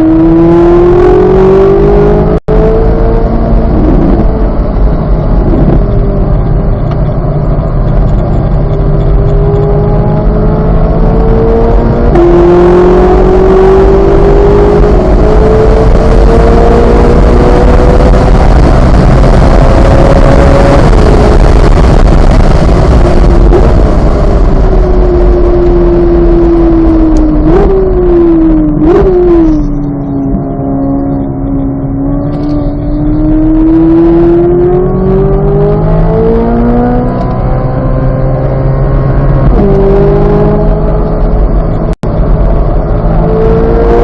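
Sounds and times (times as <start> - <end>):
car engine at full throttle: 0.0 - 44.0
wind and road noise: 0.0 - 44.0.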